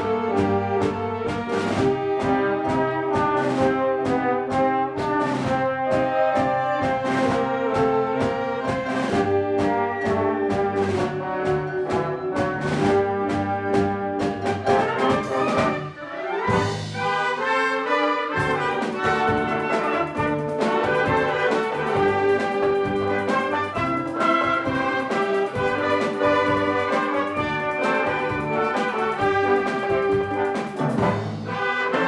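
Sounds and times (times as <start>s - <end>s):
percussion beat: 0.0s - 17.3s, 18.4s - 31.7s
brass: 0.0s - 32.0s
wind orchestra playing: 0.0s - 32.0s.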